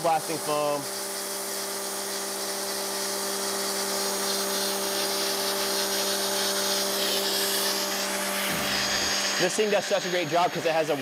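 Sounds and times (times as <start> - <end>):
pressure washer hum: 0.0 - 11.0.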